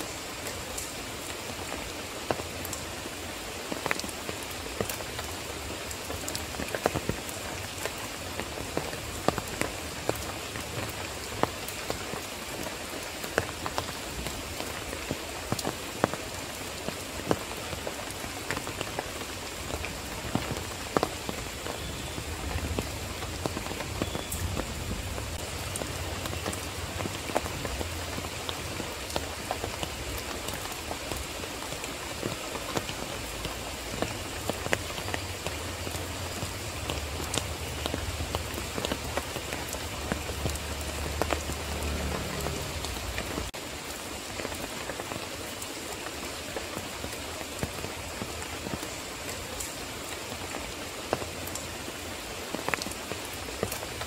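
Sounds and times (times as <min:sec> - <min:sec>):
rain on leafy plants: 0:00.0 - 0:54.0.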